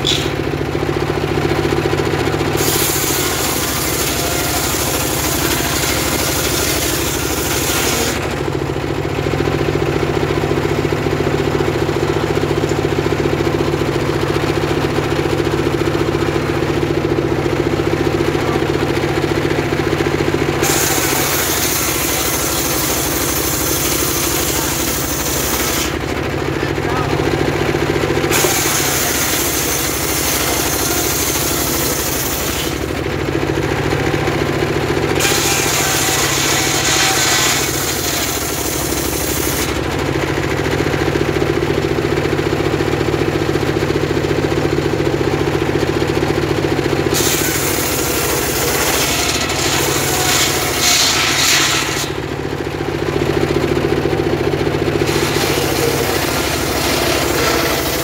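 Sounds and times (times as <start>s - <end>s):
circular saw cutting timber: 0.0s - 41.2s, 46.2s - 58.0s
small engine running: 0.0s - 58.0s.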